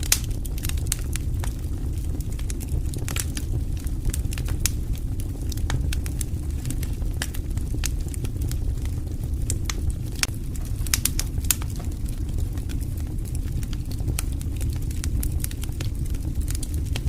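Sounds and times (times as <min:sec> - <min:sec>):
fire crackling and popping: 0:00.0 - 0:17.0
low noise of burning flames: 0:00.0 - 0:17.0.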